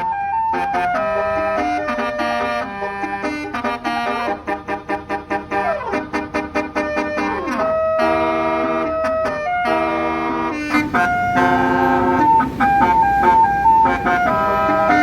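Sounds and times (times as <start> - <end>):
bus horn playing a tune: 0.0 - 15.0.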